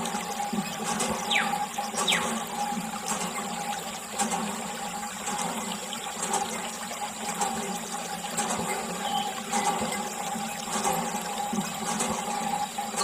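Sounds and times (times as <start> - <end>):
water jet splashing: 0.0 - 13.0.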